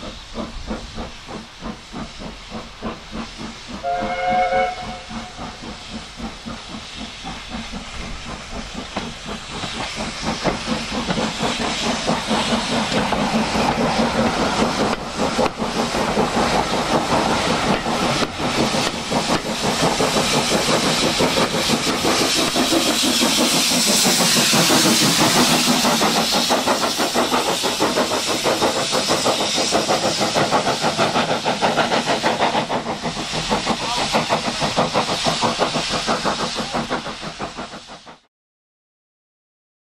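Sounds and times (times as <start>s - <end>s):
steam hissing: 0.0s - 38.3s
steam locomotive exhaust beating: 0.0s - 38.3s.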